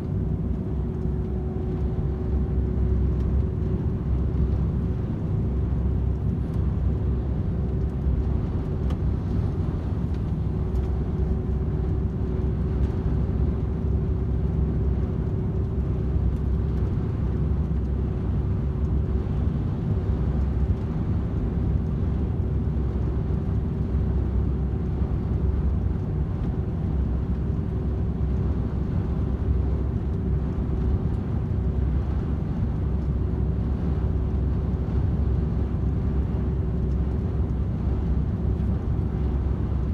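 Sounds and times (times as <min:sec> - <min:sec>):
steady humming tone: 0:00.0 - 0:39.9
truck diesel engine drone: 0:00.0 - 0:39.9.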